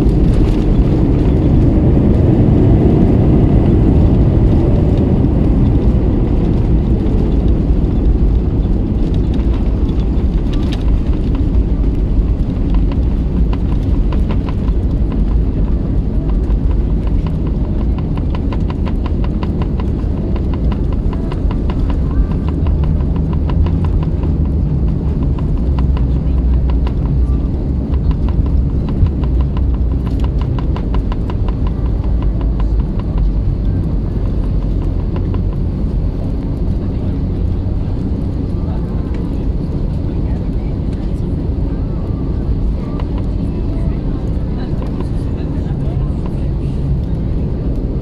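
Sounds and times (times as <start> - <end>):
airplane cabin rumble: 0.0 - 48.0
jet engine whine: 0.0 - 48.0.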